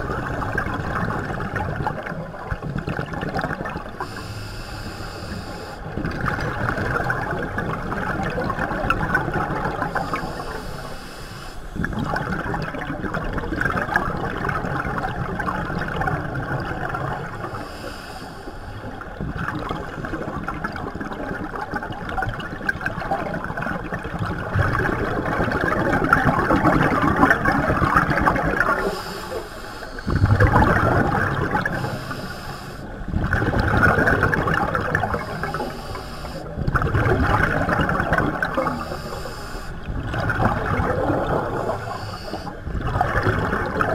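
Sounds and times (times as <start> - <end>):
muffled underwater bubbles gurgling: 0.0 - 43.9.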